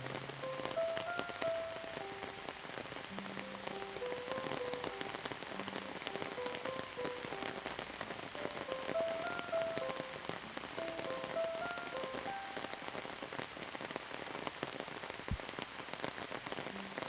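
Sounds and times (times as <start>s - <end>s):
soft slow melody: 0.0s - 13.5s, 16.5s - 17.0s
rain drops pattering: 0.0s - 17.0s.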